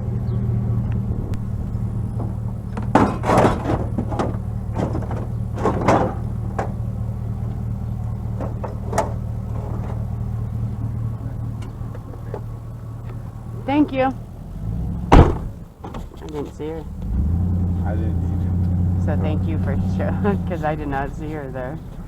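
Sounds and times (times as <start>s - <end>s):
vehicle engine idling: 0.0s - 22.0s
knocks and clatters: 0.9s - 22.0s.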